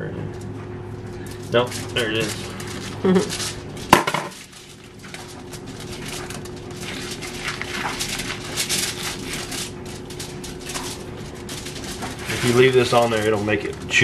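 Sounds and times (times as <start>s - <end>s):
aluminium foil crinkling: 1.1s - 14.0s.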